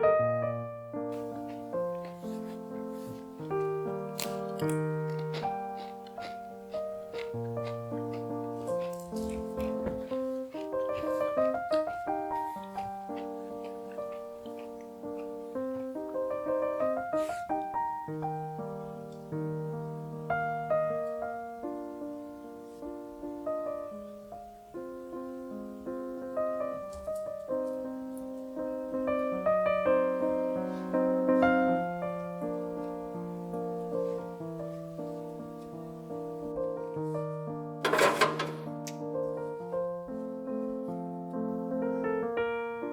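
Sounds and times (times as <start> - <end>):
solo piano melody: 0.0 - 42.9.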